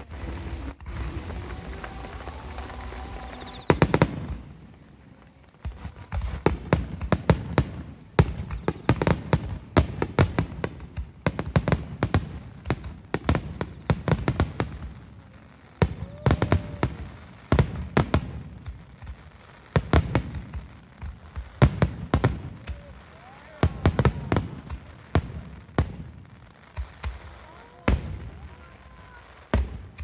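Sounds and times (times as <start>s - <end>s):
fireworks bursts and bangs: 0.0s - 30.0s.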